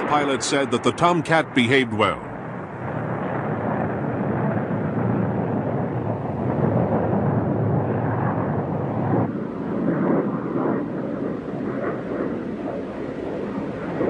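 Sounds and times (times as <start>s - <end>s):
jet engines rushing rumble: 0.0s - 14.0s.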